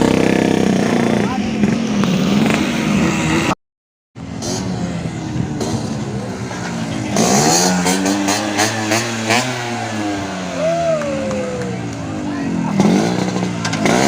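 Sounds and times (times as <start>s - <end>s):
racing scooter engines revving: 0.0s - 3.6s, 4.2s - 14.0s.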